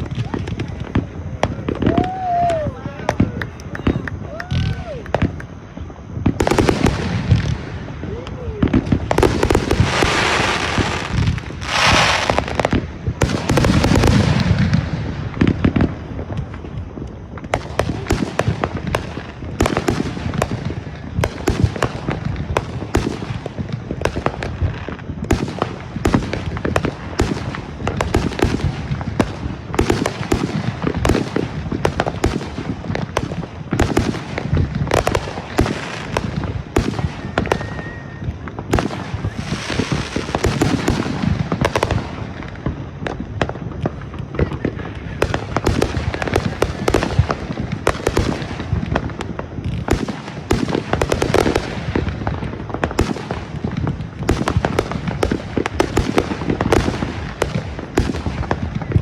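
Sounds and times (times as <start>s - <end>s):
firework hiss: 0.0s - 59.0s
fireworks bangs and pops: 0.0s - 59.0s.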